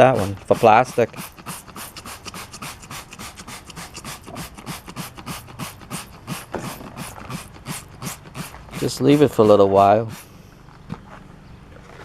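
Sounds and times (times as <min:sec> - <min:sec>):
spray bottle hissing sprays: 0:00.0 - 0:10.4.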